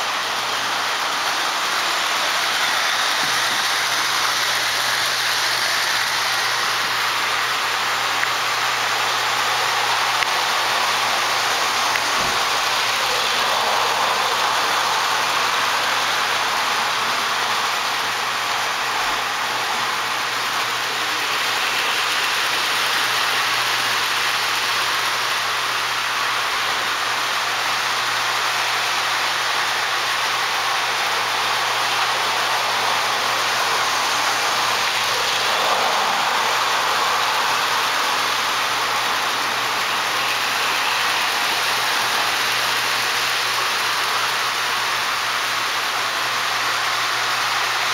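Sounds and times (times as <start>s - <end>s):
toy train motors whirring: 0.0s - 47.9s.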